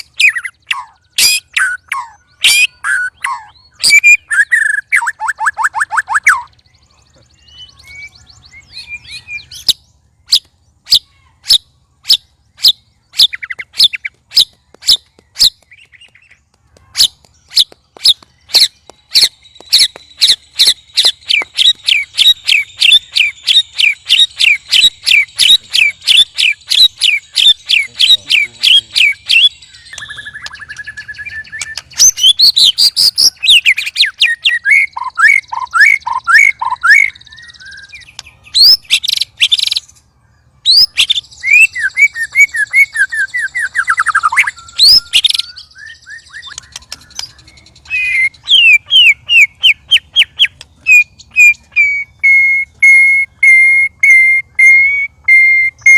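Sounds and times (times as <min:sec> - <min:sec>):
songbirds calling and singing: 0:00.0 - 0:55.9.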